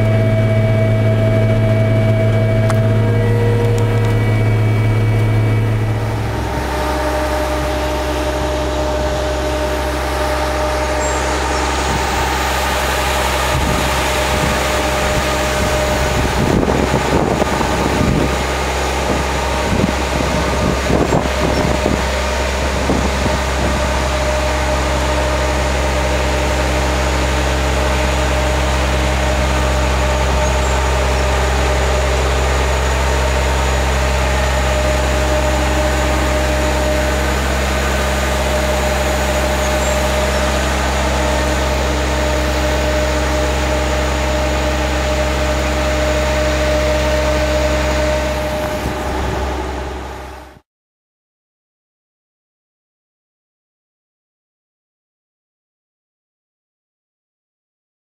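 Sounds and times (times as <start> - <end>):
tractor engine running: 0.0 - 50.6.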